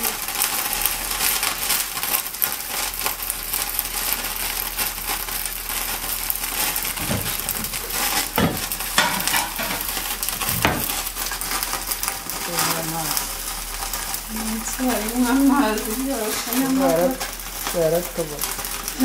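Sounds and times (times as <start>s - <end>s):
food sizzling in a frying pan: 0.0s - 19.0s
utensil stirring in a pan: 0.0s - 19.0s.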